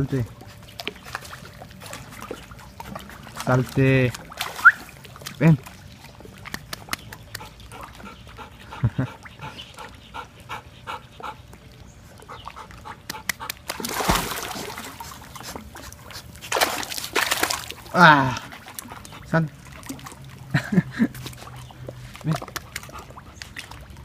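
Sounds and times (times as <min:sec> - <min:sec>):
water splashing: 0:00.0 - 0:10.0, 0:11.3 - 0:24.0.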